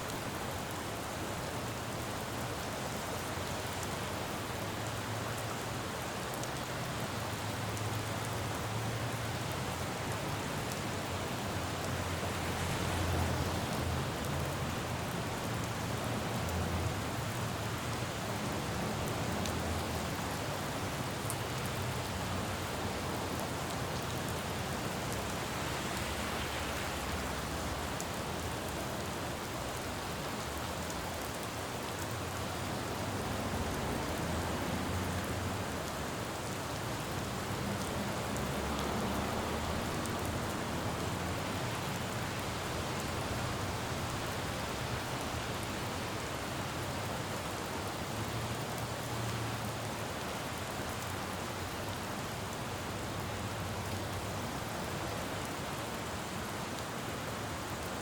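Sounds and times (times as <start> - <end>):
rain falling on road: 0.0 - 58.0
traffic on wet pavement: 0.1 - 58.0.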